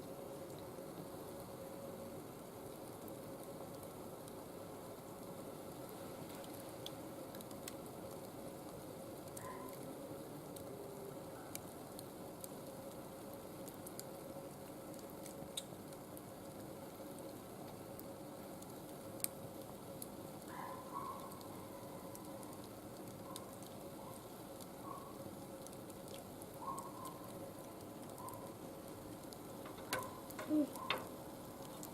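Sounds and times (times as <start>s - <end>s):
fire crackles and pops: 0.0s - 31.9s.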